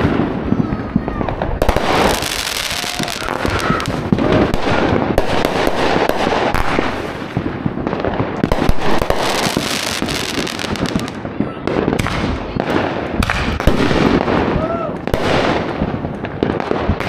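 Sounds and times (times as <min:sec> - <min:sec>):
fireworks crackling: 0:00.0 - 0:17.0
fireworks launching and bursting: 0:00.0 - 0:17.0.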